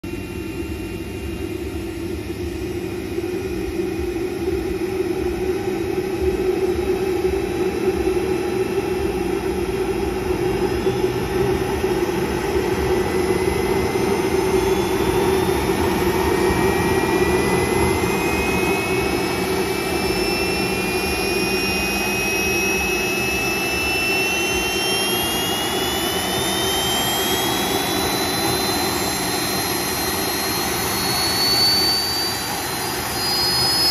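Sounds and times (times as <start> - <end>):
high fan whine rising: 0.0 - 33.9
electric ducted fans rushing: 0.1 - 33.9.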